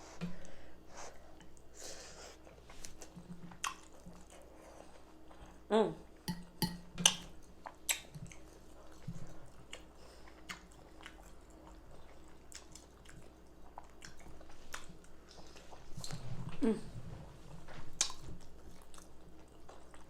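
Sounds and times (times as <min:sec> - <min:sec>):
close chewing with mouth sounds: 0:00.0 - 0:20.0.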